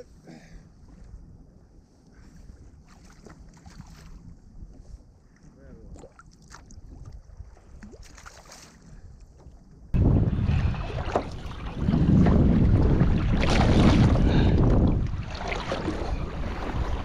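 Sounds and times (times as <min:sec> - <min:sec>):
wind buffeting microphone: 0:00.7 - 0:08.1, 0:08.7 - 0:17.0.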